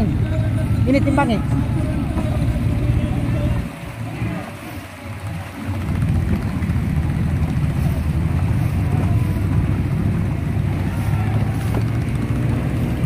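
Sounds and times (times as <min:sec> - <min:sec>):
boat motor droning: 0:00.0 - 0:13.0
wind on microphone: 0:02.2 - 0:13.0.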